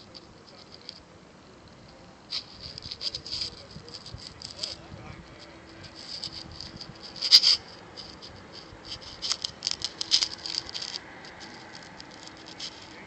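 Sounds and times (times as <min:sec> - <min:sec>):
phone handling scratching and clicks: 0:02.3 - 0:13.0.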